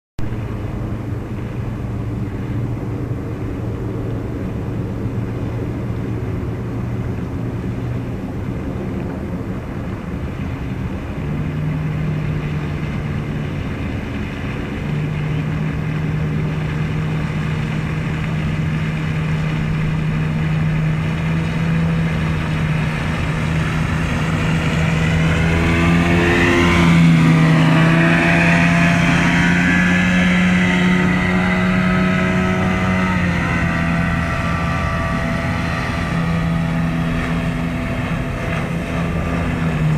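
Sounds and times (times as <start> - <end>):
outboard engine running: 0.2 - 39.9
water rushing from wake: 0.2 - 39.9.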